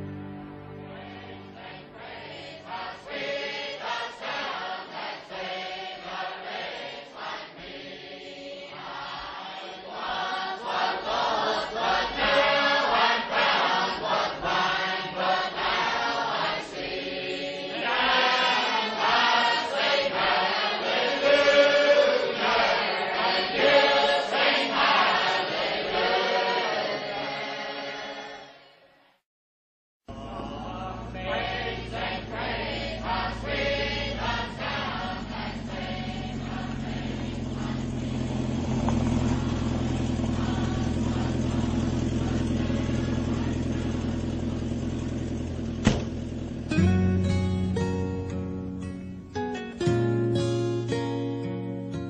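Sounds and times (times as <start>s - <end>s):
choir singing slow chant: 0.0s - 29.0s, 30.1s - 46.2s.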